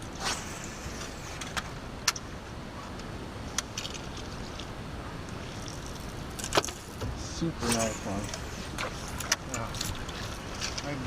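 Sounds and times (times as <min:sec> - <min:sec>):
boat low rumble: 0:00.0 - 0:11.0.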